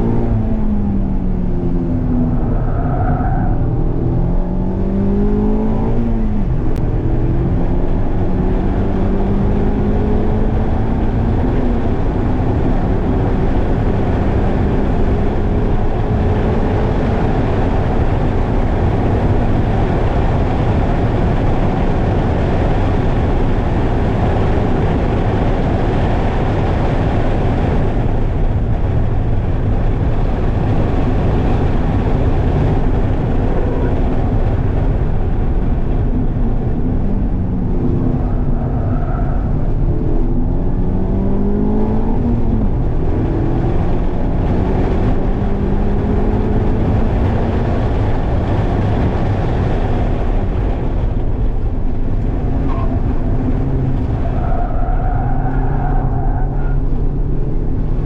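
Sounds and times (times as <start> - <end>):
car engine revving: 0.0 - 58.0
wind and tyre noise: 0.0 - 58.0.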